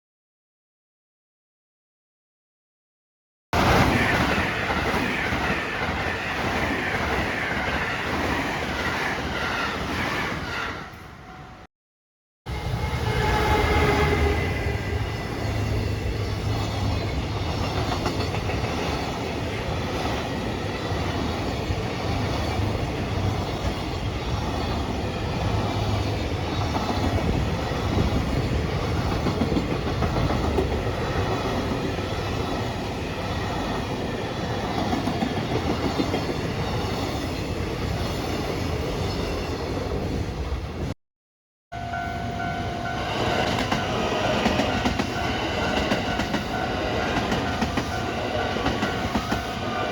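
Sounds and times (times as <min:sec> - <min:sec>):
electric train rumbling on rails: 0:03.6 - 0:11.7, 0:12.5 - 0:41.0, 0:41.8 - 0:49.9.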